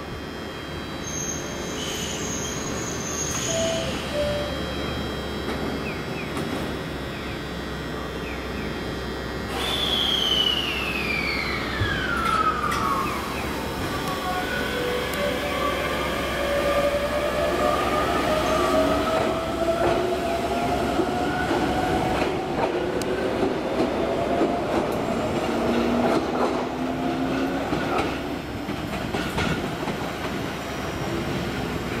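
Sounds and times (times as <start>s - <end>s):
electric train inverter whine: 0.0s - 32.0s.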